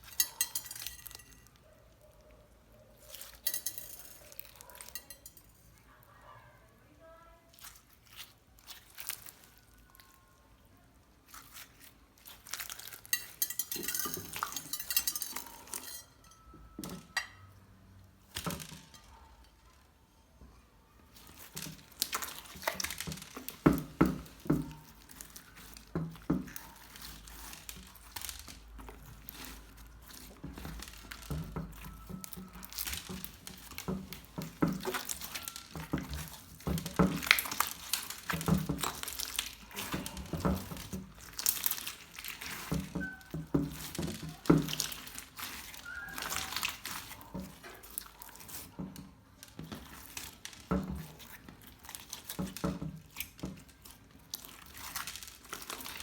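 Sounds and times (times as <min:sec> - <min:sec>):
slime crackling and squishing: 0:00.0 - 0:16.4, 0:17.8 - 0:56.0.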